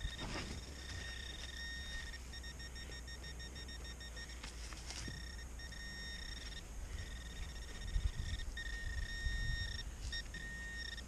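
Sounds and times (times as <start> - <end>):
metal detector electronic tone: 0.0 - 11.0.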